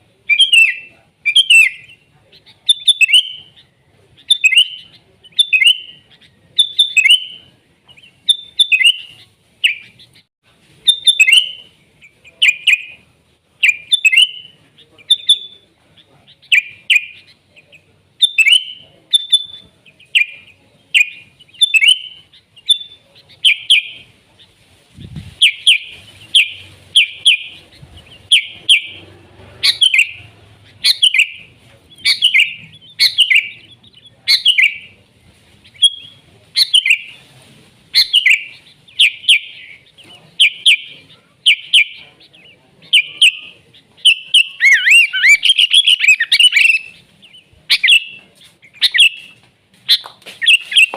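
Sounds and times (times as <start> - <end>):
bulbul calling: 0.2 - 10.2, 10.8 - 13.0, 13.6 - 24.5, 25.3 - 35.0, 35.6 - 37.2, 38.0 - 50.9.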